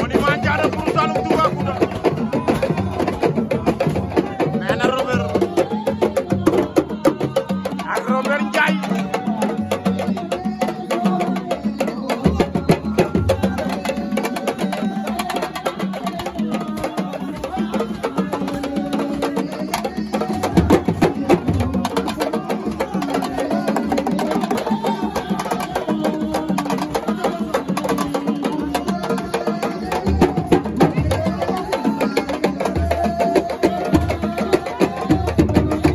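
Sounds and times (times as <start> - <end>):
drum ensemble playing: 0.0 - 35.9
voices singing: 0.0 - 35.9.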